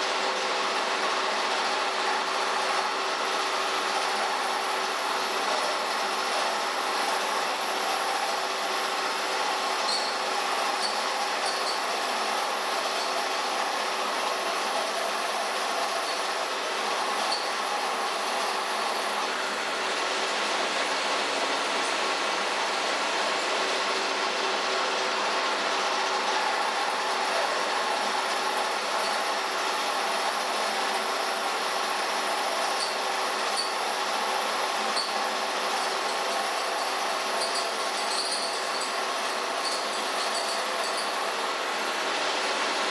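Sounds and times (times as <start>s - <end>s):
thin high whine: 0.0s - 42.9s.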